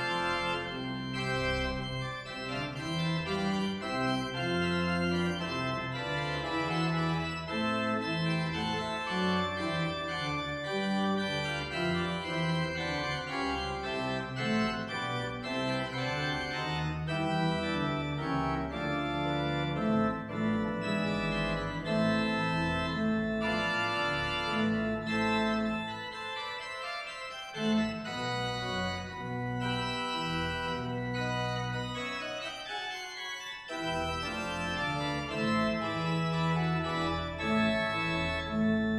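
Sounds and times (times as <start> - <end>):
church organ playing chords: 0.0 - 38.9.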